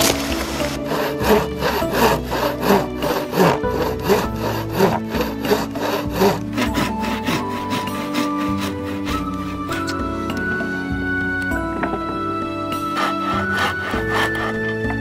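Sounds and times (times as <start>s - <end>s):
hand saw cutting wood: 0.0s - 10.6s, 12.8s - 15.0s.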